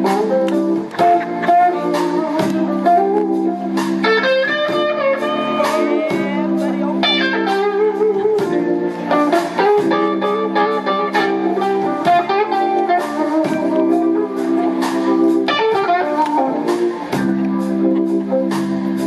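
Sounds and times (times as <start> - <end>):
band backing chords: 0.0 - 19.0
electric blues guitar lead: 0.0 - 19.0
steady drum beats: 0.0 - 19.0.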